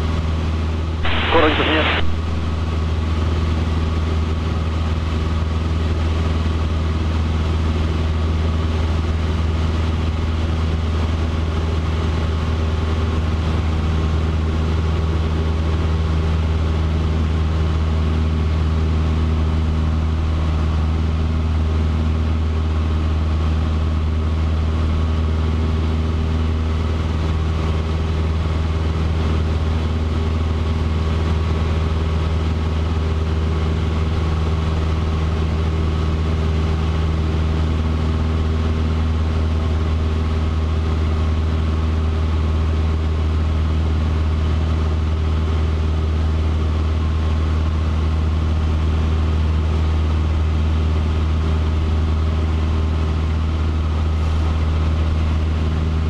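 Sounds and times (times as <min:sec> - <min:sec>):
small plane engine and propeller: 0:00.0 - 0:56.0.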